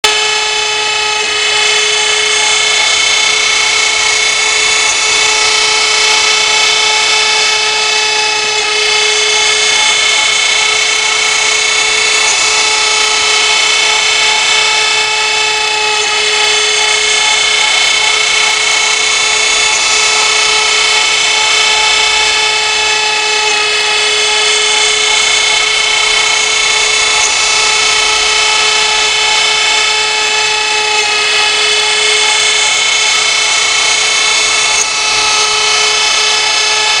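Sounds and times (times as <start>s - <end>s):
router spindle whining: 0.0s - 37.0s.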